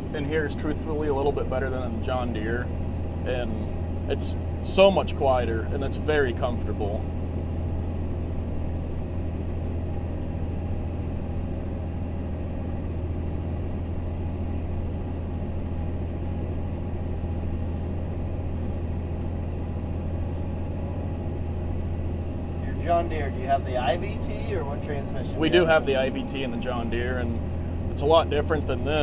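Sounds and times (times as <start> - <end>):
tractor engine drone: 0.0 - 29.0.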